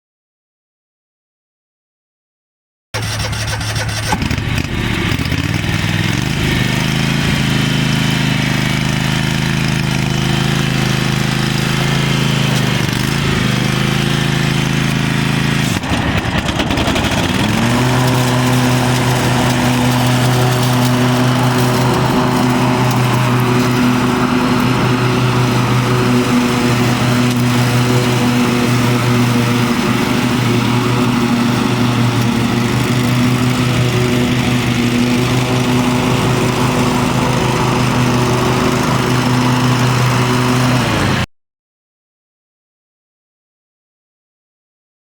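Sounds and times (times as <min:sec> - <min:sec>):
lawn tractor engine running: 0:03.0 - 0:41.3.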